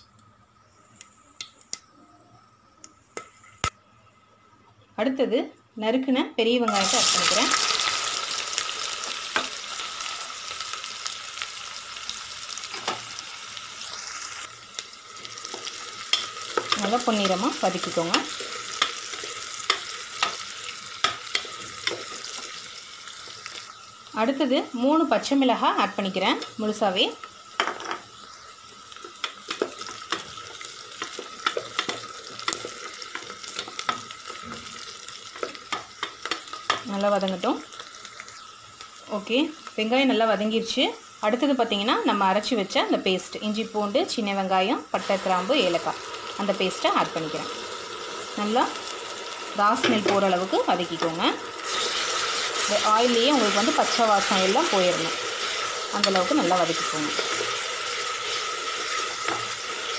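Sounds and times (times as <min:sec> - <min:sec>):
onions sizzling in oil: 0:06.6 - 0:59.9.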